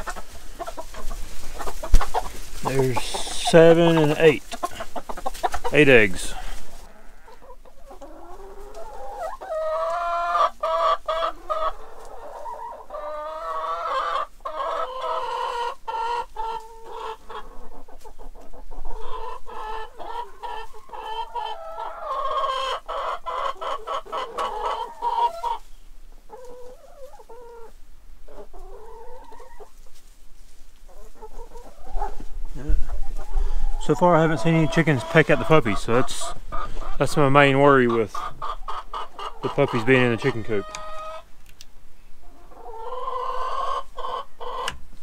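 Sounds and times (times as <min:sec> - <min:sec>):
hens clucking and calling: 0:00.0 - 0:45.0.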